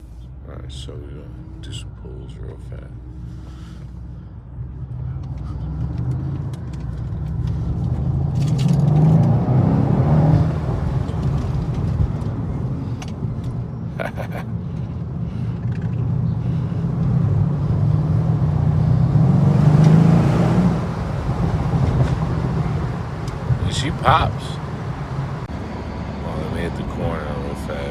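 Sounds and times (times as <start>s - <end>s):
car engine accelerating: 4.6s - 27.9s.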